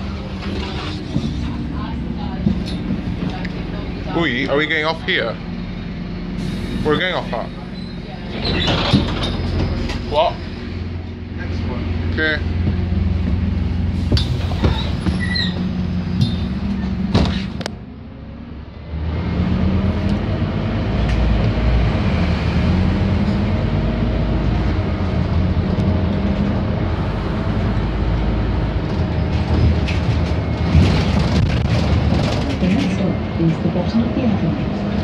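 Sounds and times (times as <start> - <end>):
bus engine hum: 0.0 - 35.0.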